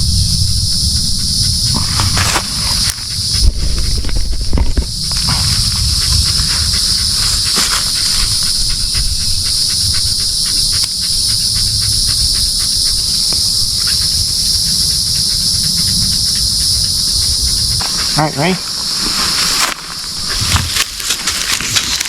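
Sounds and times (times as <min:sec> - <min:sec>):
insects buzzing: 0:00.0 - 0:22.0
low rumble: 0:00.0 - 0:22.0.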